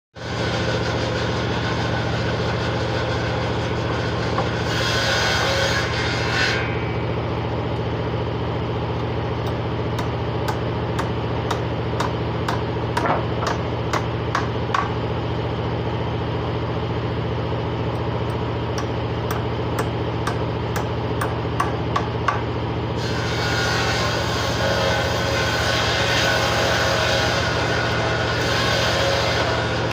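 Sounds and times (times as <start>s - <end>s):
workshop machine humming: 0.4s - 29.9s.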